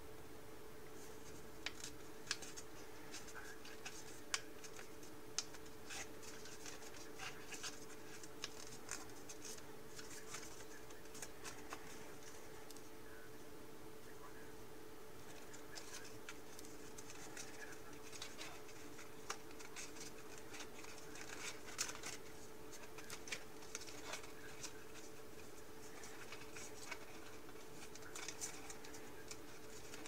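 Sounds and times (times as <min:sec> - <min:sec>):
steady low hum: 0:00.0 - 0:30.0
paper crinkling: 0:01.0 - 0:12.9, 0:15.2 - 0:30.0.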